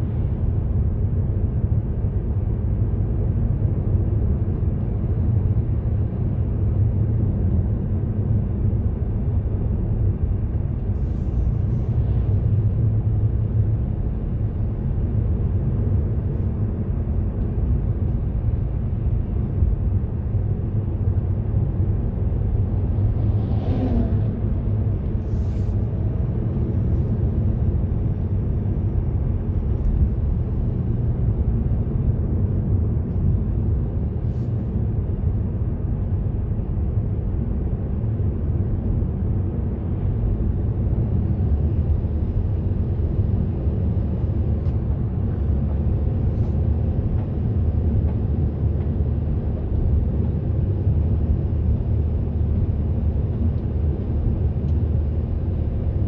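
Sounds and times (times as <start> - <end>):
car driving rumble: 8.4 - 56.0.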